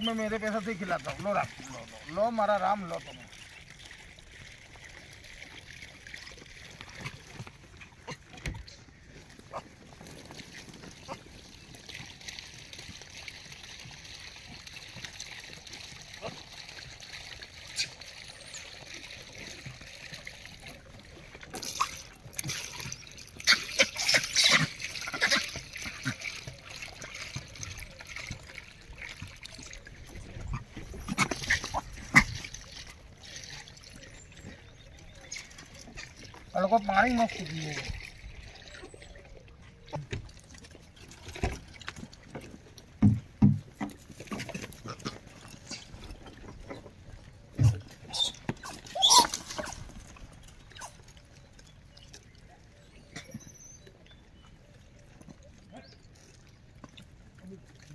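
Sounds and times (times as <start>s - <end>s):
monkeys lapping water: 0.0s - 57.9s.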